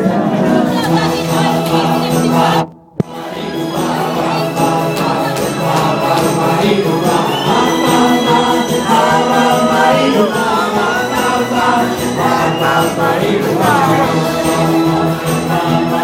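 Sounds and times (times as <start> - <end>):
loud music with sliding melody: 0.1 - 16.0.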